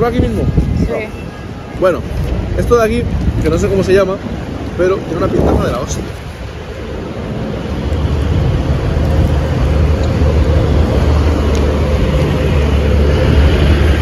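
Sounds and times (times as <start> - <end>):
low street traffic rumble: 0.0 - 14.0.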